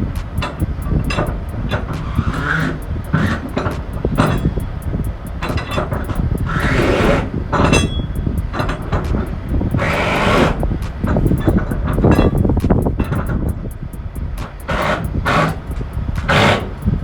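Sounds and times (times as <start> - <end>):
heavy vehicle rumbling: 0.0 - 17.0
rattling and clicking: 0.0 - 17.0
rush of hiss: 0.0 - 17.0.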